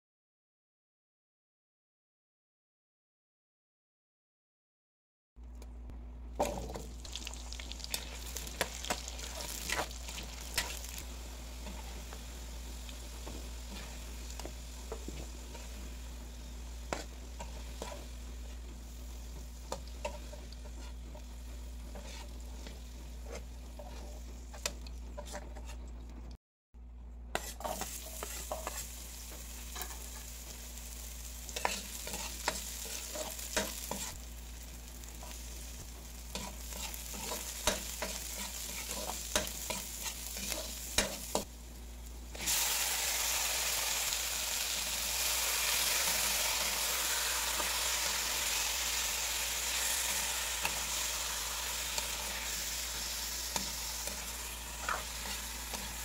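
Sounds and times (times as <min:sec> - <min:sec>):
vegetables sizzling in oil: 0:06.4 - 0:25.0, 0:27.4 - 0:56.0.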